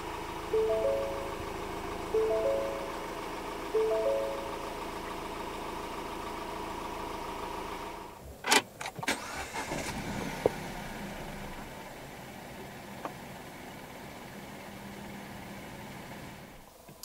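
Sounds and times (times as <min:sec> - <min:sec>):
diesel engine idling: 0:00.0 - 0:08.2, 0:09.2 - 0:16.6.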